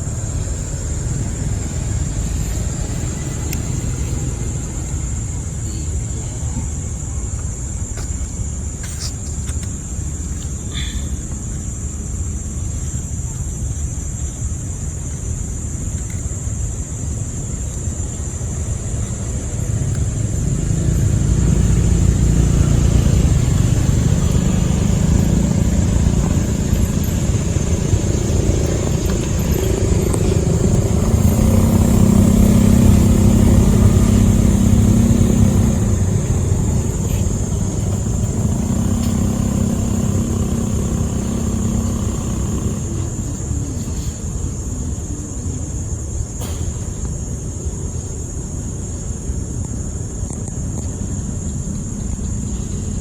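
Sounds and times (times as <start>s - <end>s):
vehicle engine running: 0.0s - 45.0s.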